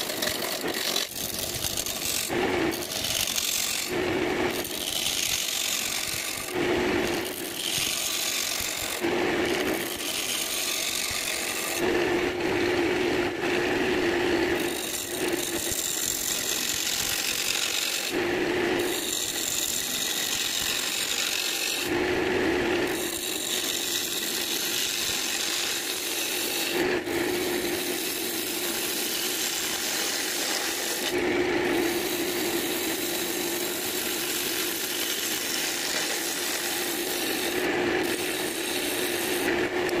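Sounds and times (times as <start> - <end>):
wood lathe tool scraping: 0.0 - 12.3, 13.4 - 21.9, 22.7 - 40.0.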